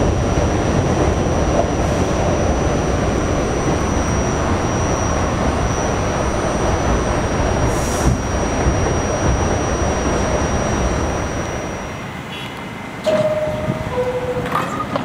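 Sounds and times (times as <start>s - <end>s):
subway wheels rumbling on rail: 0.0s - 15.0s
thin high whine: 1.8s - 15.0s.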